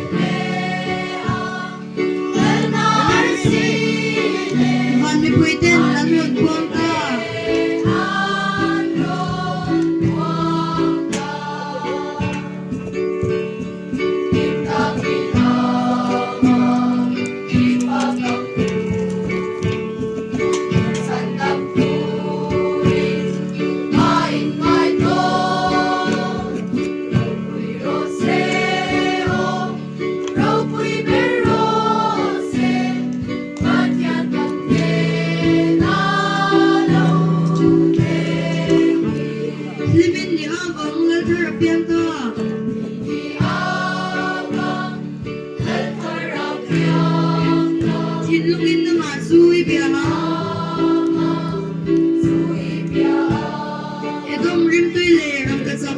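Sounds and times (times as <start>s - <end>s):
group of voices singing: 0.0s - 13.0s, 14.3s - 40.8s, 43.0s - 55.7s
strummed accompaniment: 0.0s - 55.9s.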